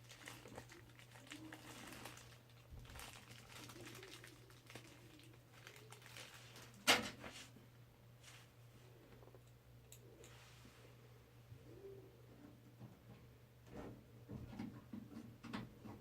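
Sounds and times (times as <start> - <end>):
faint handling noises: 0.0 - 16.0
low electrical hum: 0.0 - 16.0.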